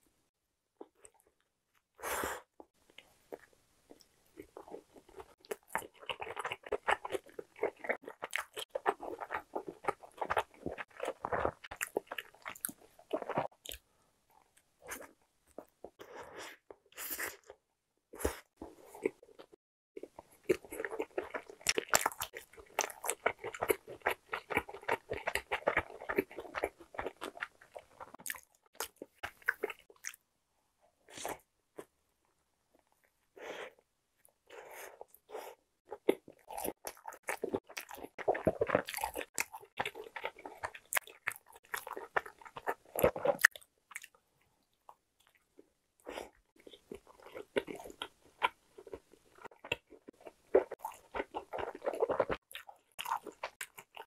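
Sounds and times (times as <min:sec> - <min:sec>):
person chewing bread: 0:02.8 - 0:17.6, 0:18.2 - 0:30.2, 0:34.2 - 0:54.0.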